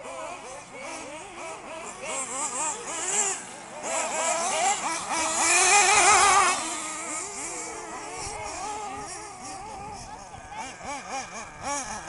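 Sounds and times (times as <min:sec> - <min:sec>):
rc buggy engines revving: 0:00.0 - 0:12.0.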